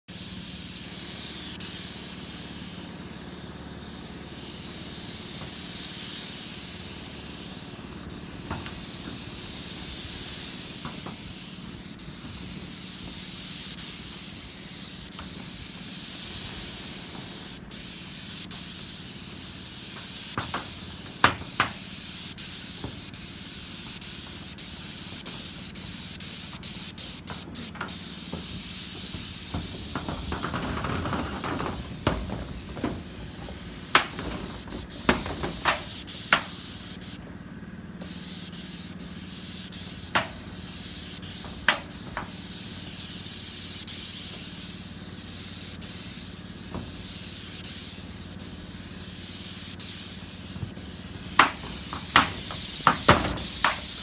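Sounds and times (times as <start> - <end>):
paint spray gun hissing: 0.1 - 37.2, 38.0 - 54.0.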